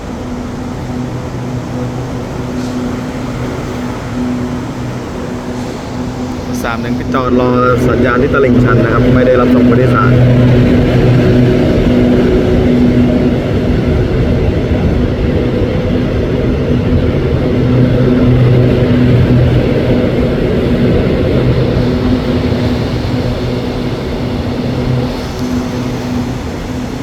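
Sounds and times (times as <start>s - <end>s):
train diesel engine idling: 0.0s - 27.0s.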